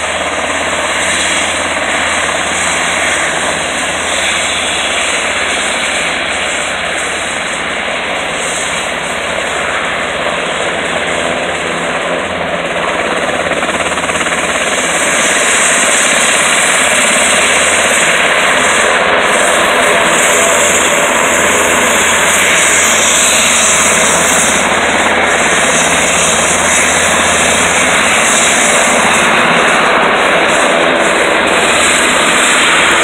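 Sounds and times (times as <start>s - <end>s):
helicopter rotor rush: 0.0s - 33.0s
high turbine whine: 0.0s - 33.0s.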